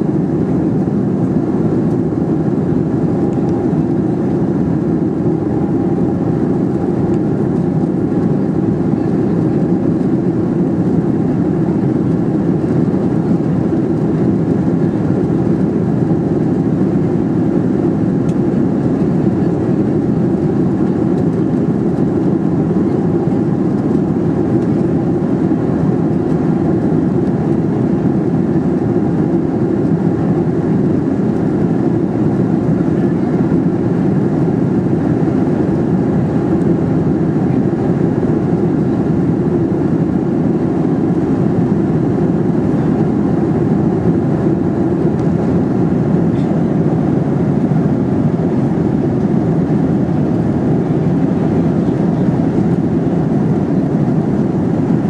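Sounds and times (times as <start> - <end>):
airplane cabin drone: 0.0 - 55.0.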